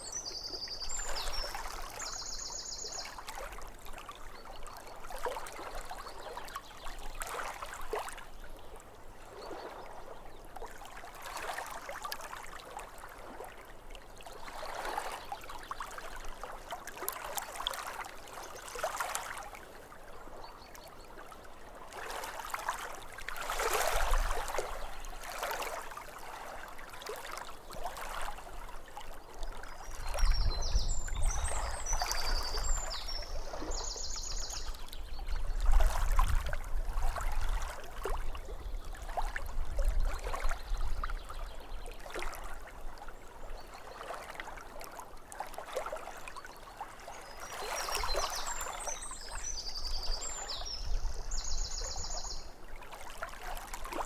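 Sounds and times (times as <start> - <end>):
waves lapping at shore: 0.0 - 54.0.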